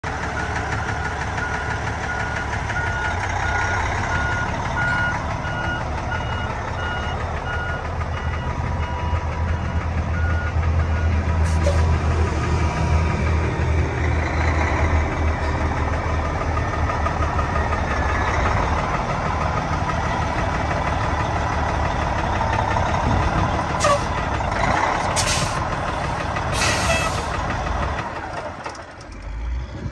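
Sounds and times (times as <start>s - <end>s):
diesel truck engine idling: 0.0s - 29.9s.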